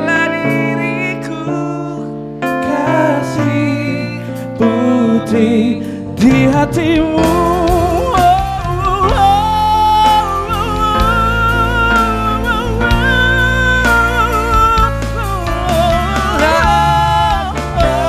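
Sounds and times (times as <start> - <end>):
electric guitar: 0.0 - 18.0
keyboard: 0.0 - 18.0.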